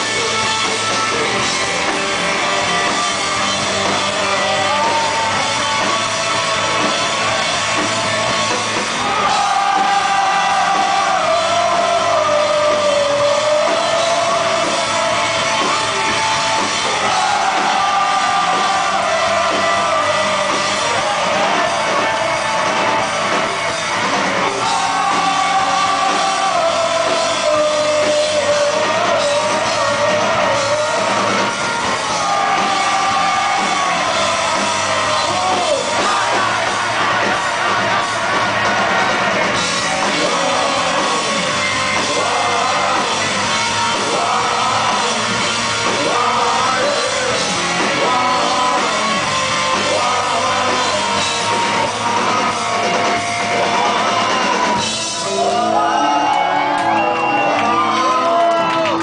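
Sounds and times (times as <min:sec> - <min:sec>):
rock band playing: 0:00.0 - 0:59.0
person singing: 0:02.4 - 0:23.6, 0:24.4 - 0:56.3.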